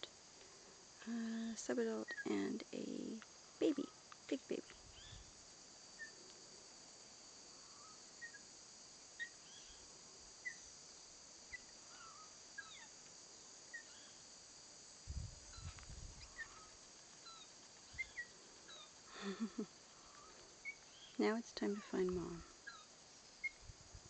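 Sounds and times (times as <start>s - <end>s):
insect drone: 0.0s - 24.0s.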